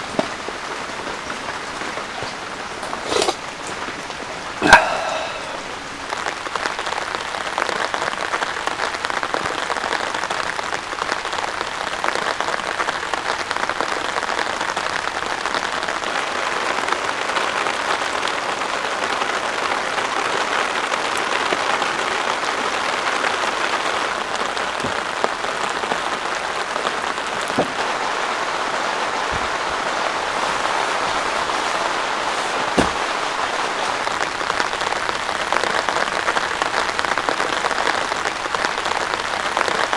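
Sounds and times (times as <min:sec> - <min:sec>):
heavy rain hissing: 0:00.0 - 0:39.9
sharp rain taps: 0:00.0 - 0:39.9.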